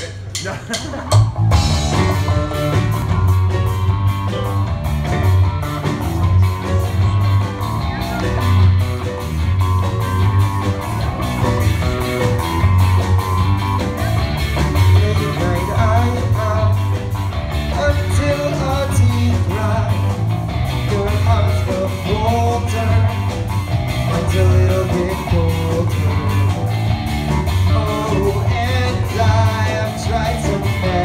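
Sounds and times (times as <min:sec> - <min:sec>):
steady drum beat: 0:00.0 - 0:31.0
strummed guitars: 0:00.2 - 0:31.0
pulsing bass line: 0:01.2 - 0:31.0.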